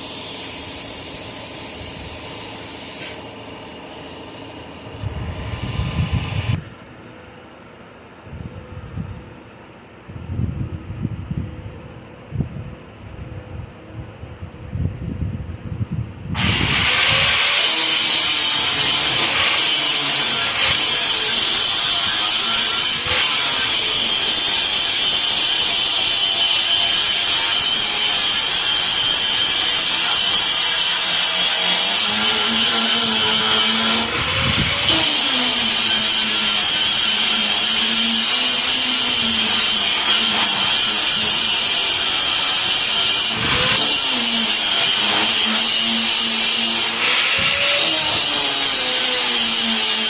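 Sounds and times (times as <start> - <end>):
power grinder grinding steel: 0.0 - 6.6, 16.4 - 50.0.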